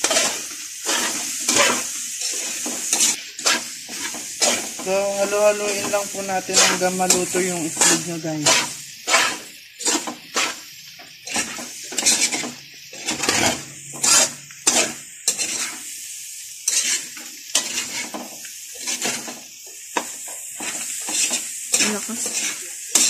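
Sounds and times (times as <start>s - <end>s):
metal spatula scraping wok: 0.0s - 16.0s, 16.6s - 23.0s
light steady sizzle: 0.0s - 23.0s.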